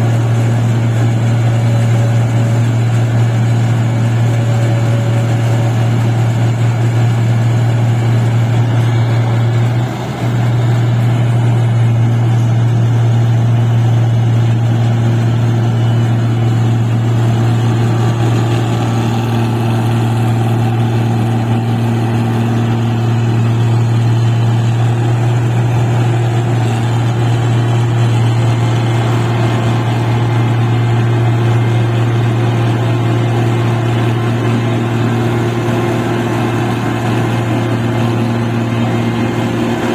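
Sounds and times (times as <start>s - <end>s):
machine engine humming: 0.0s - 39.9s.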